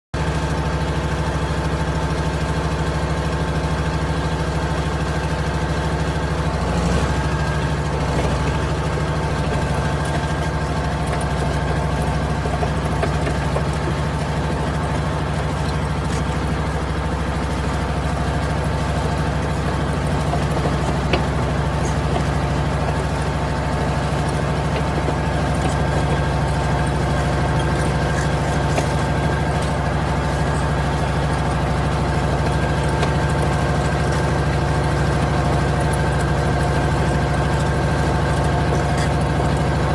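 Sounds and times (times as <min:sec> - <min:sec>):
vehicle engine idling: 0:00.2 - 0:39.9.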